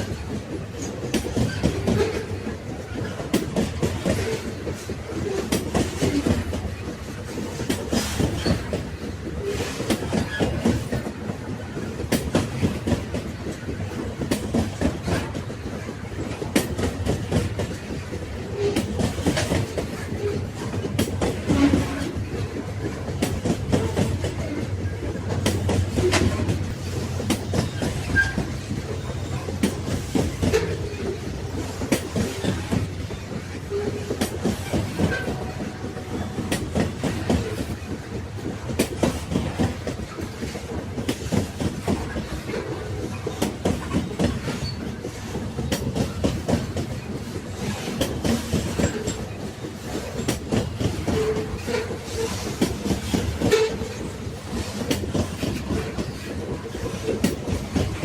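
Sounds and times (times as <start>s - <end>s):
train rumble on track: 0.0s - 58.0s
wheels clacking over rail joints: 0.0s - 58.0s.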